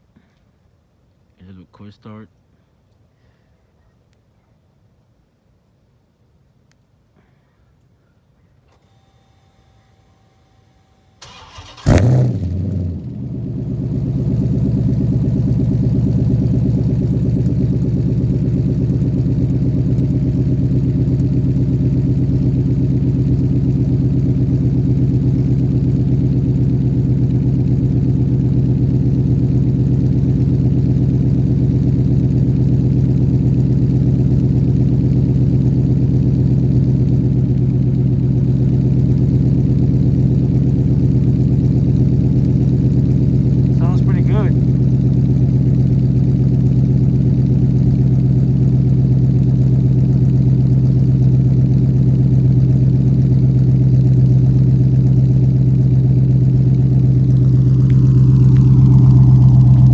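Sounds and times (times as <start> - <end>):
car engine cold start and idle: 8.7 - 59.9.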